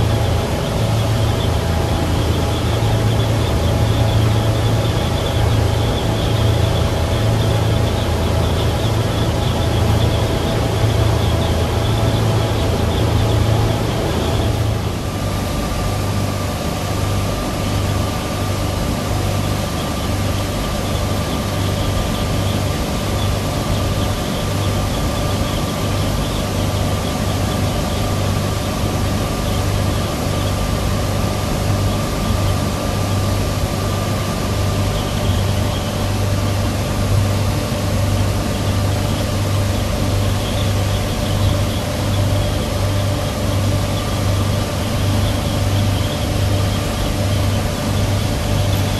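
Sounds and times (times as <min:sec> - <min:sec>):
outboard motors droning: 0:00.0 - 0:48.9.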